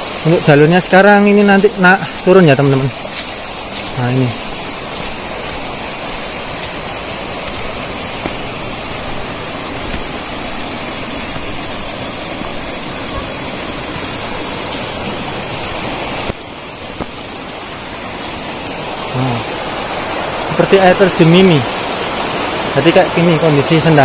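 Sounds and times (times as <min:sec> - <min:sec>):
water pouring down small waterfall: 0:00.0 - 0:24.0.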